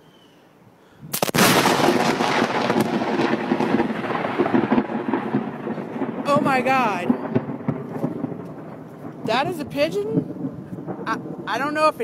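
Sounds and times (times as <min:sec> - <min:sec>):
thunder crack and rumble: 0:01.2 - 0:12.0.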